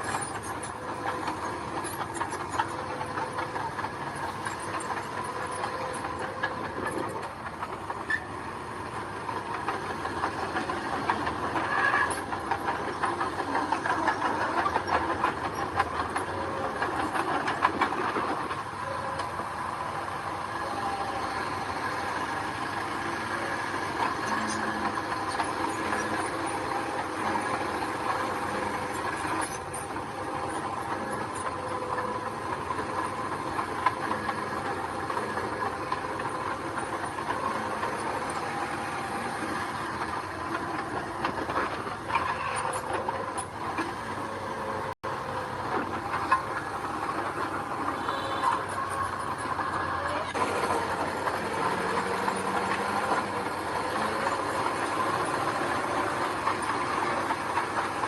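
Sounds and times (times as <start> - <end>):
diesel engine whine: 0.0 - 58.0
steel tracks clattering: 0.0 - 58.0.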